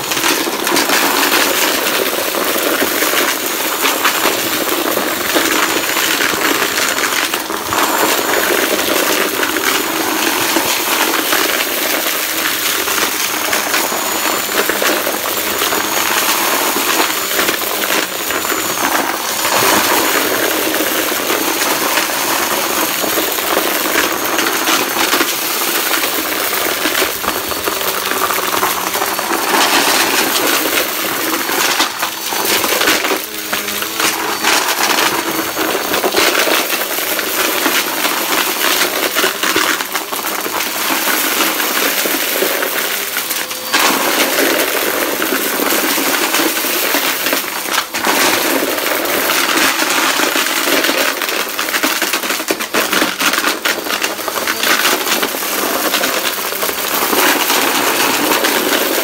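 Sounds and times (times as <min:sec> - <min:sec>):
debris clattering through vacuum: 0:00.0 - 0:59.0
vacuum cleaner running: 0:00.0 - 0:59.0.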